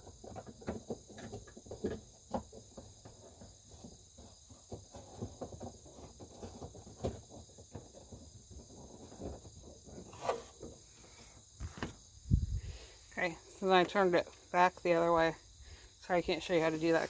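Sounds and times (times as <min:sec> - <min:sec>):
insect chirring: 0:00.1 - 0:17.0.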